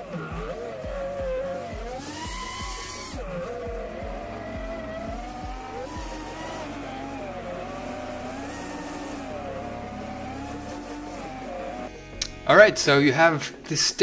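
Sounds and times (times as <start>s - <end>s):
quadcopter motors whining: 0.0s - 11.9s.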